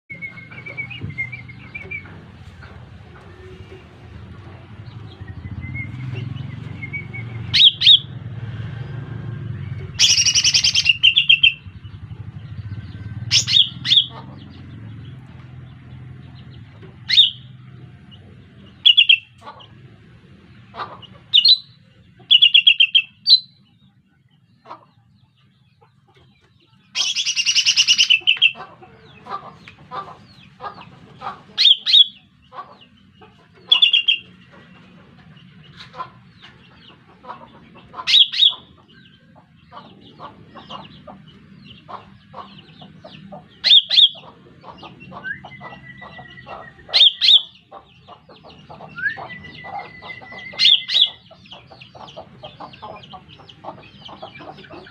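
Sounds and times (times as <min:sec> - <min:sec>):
bird chattering: 0:00.1 - 0:08.1, 0:09.8 - 0:19.9, 0:20.5 - 0:23.7, 0:24.6 - 0:54.9
sharp bird calls: 0:00.1 - 0:08.2, 0:09.5 - 0:54.9.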